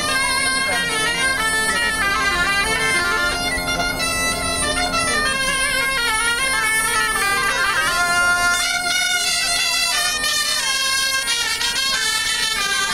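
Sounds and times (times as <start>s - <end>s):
bagpipe drone: 0.0s - 12.9s
folk band of shawms playing: 0.0s - 12.9s.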